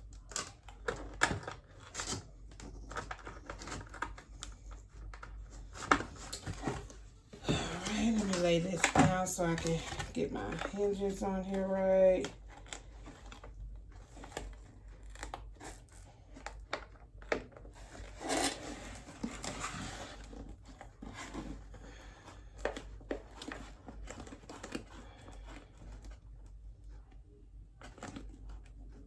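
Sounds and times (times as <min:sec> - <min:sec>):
scratchy tearing rustle: 0:00.2 - 0:26.2.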